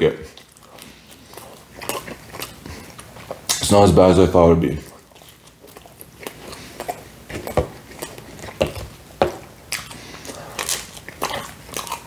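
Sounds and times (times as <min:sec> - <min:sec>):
chewing with mouth smacks: 0:00.2 - 0:03.7, 0:04.8 - 0:12.0.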